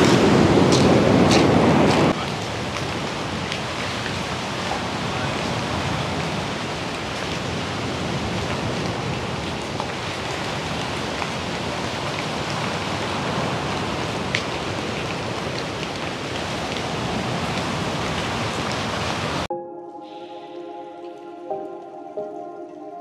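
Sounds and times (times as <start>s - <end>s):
heavy rain falling: 0.0s - 19.5s
raindrops ticking close by: 0.7s - 19.5s.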